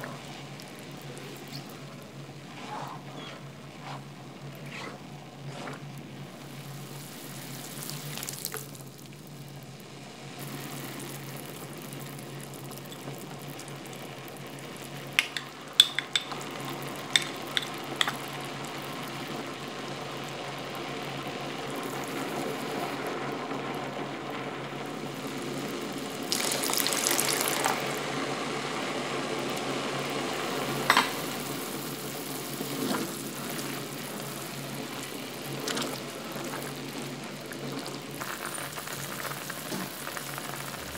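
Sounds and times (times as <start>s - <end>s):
broth simmering and bubbling: 0.0s - 40.9s.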